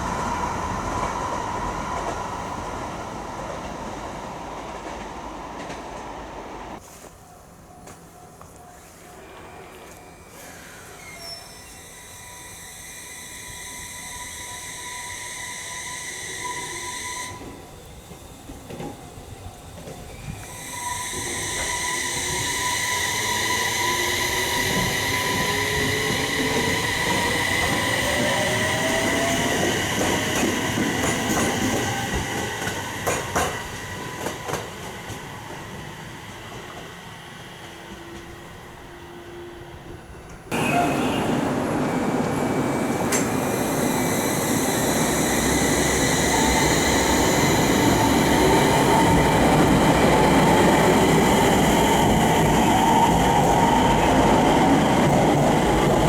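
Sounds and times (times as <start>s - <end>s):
electric train inverter whine: 0.0s - 6.8s, 7.5s - 56.0s.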